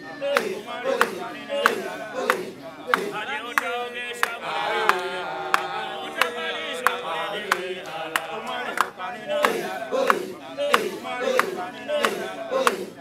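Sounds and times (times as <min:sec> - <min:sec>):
voices singing religious chant: 0:00.0 - 0:13.0.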